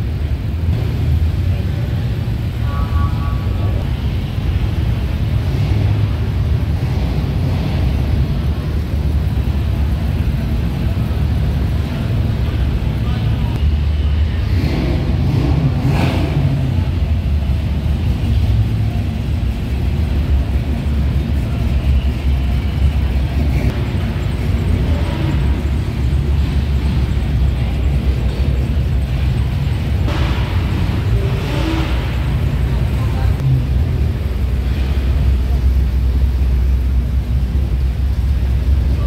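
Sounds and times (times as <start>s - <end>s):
cars driving slowly past: 0.0s - 39.0s.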